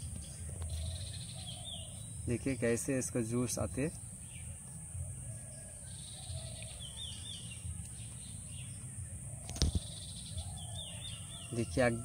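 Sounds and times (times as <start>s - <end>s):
bird calling: 0.0s - 2.6s, 4.2s - 12.0s
high insect hum: 0.0s - 12.0s.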